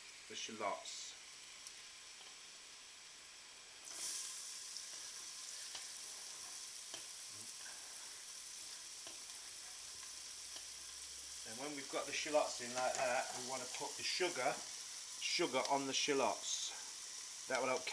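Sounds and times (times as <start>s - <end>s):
shallots sizzling in a pan: 0.0s - 17.9s.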